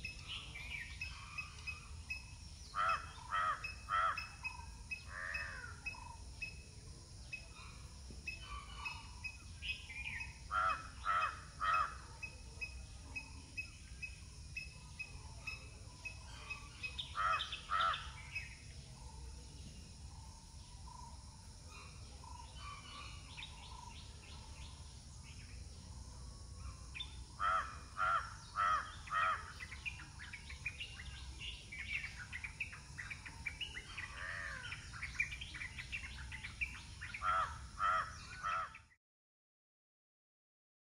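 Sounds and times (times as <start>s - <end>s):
faint bird chirps: 0.0s - 39.0s.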